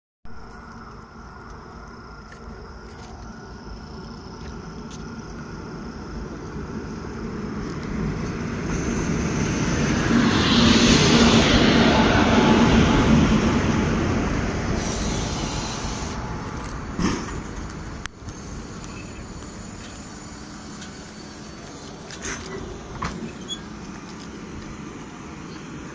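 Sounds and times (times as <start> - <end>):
train wheels rumbling on rails: 0.3 - 25.9.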